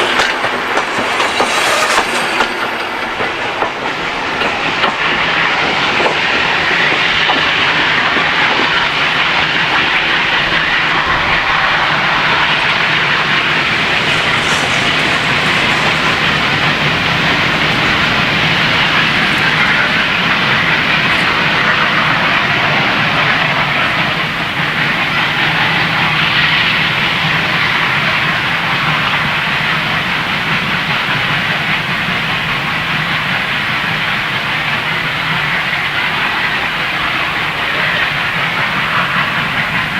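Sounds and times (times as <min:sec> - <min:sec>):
steam train wheels on rails: 0:00.0 - 0:39.9.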